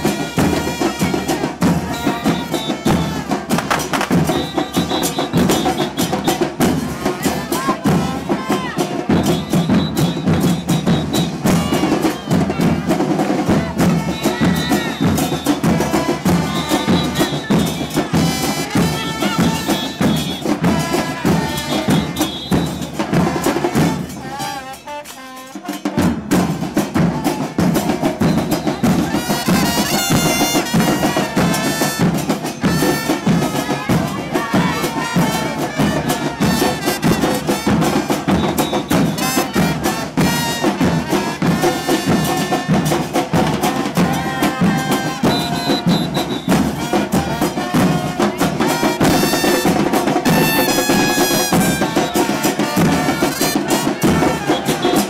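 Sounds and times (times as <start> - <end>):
loud drumming: 0.0 - 55.0.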